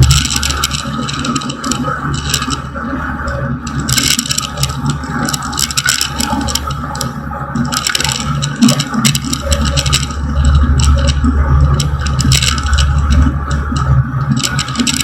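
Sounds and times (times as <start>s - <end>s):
rattling and scraping: 0.0s - 2.8s, 3.7s - 15.0s.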